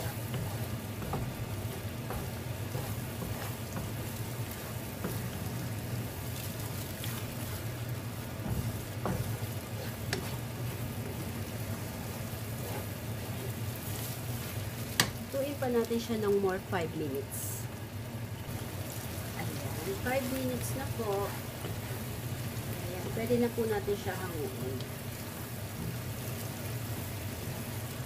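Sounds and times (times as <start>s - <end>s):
wooden spatula stirring: 0.0s - 16.7s, 18.4s - 28.0s
shrimp paste sizzling in a frying pan: 0.0s - 28.0s.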